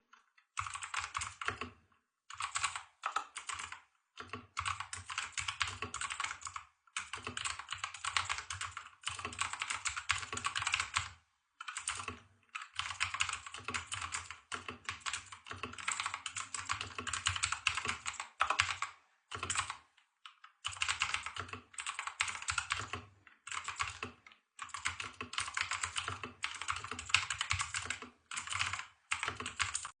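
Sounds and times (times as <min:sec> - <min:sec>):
mechanical keyboard typing: 0:00.4 - 0:30.0.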